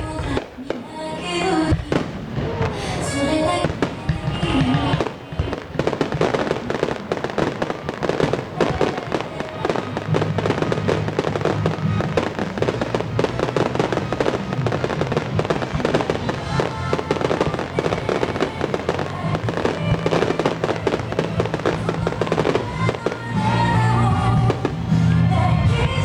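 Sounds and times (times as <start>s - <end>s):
fireworks bursting and crackling: 0.0s - 26.0s
music playing: 0.0s - 26.0s.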